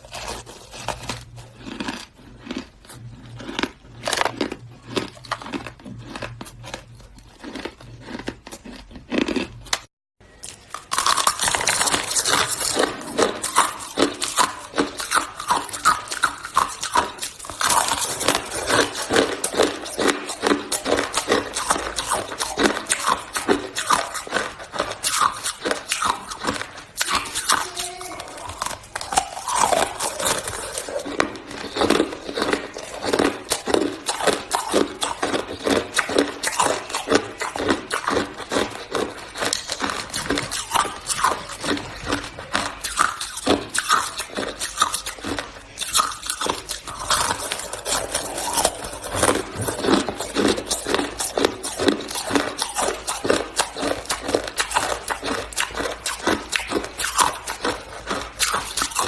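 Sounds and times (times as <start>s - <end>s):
chewing crunchy shaved ice: 0.0s - 59.0s.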